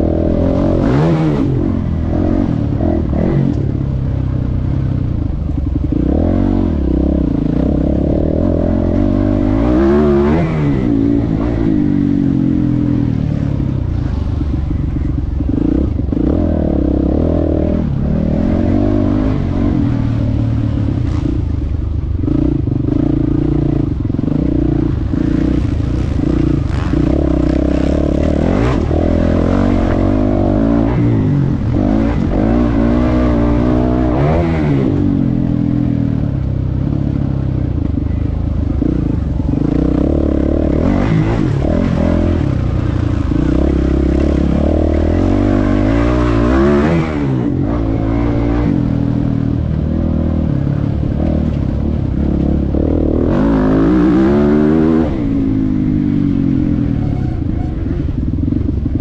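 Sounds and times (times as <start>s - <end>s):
motocross bike engine revving: 0.0s - 4.0s, 5.5s - 37.2s, 37.8s - 59.0s.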